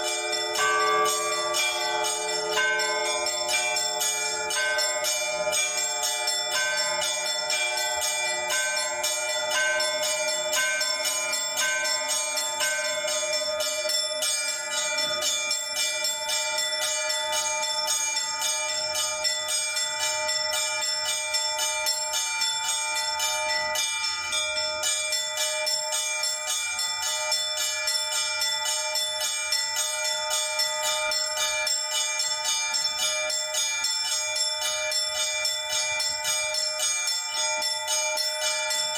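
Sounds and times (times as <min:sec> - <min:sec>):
fast peal of small bells: 0:00.0 - 0:38.9
sustained tones of large bells: 0:00.0 - 0:38.9.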